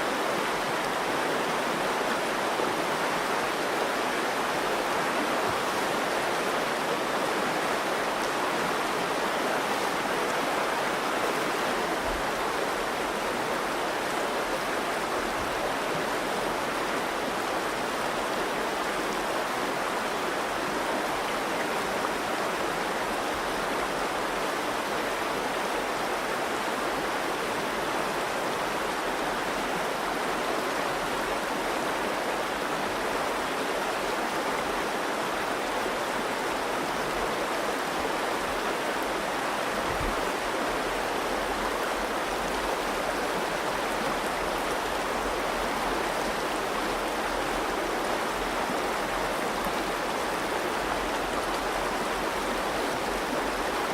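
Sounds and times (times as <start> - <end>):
river flowing: 0.0 - 53.9.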